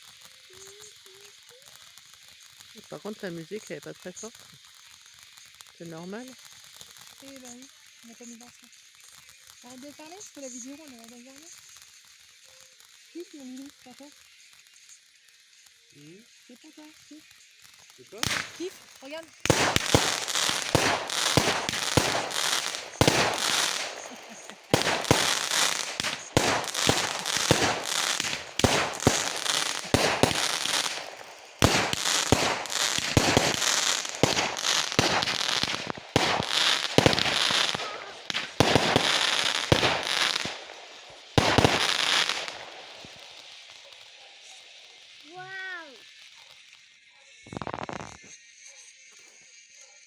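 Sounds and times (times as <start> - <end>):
fireworks bangs and crackling: 0.0 - 48.3.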